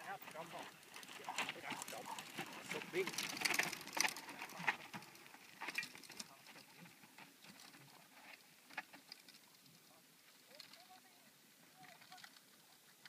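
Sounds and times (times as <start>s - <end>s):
bike tyres crunching on stones: 0.0s - 13.0s
dog paws on trail: 0.0s - 13.0s.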